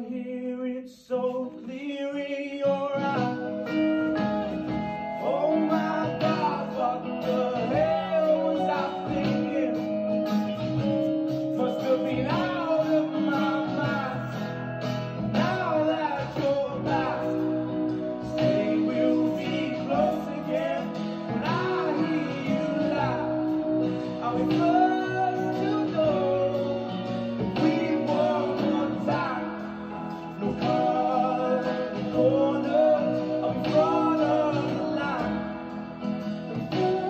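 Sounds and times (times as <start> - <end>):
song with guitar and singing: 0.0 - 37.0.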